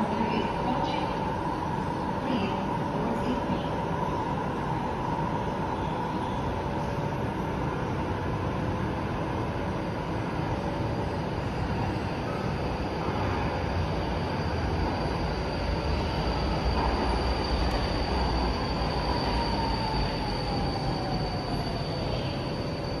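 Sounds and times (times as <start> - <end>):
train rail rumble: 0.0 - 23.0.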